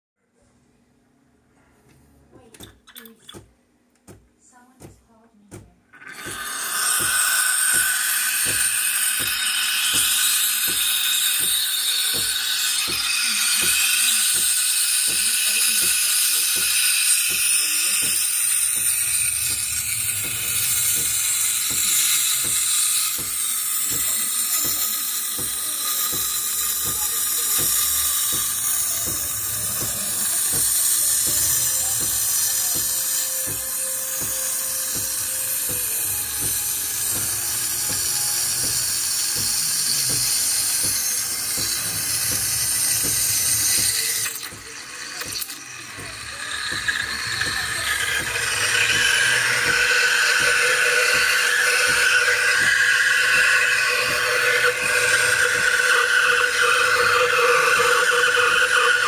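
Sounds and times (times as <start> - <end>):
steam wand hissing into milk: 6.0 - 59.0.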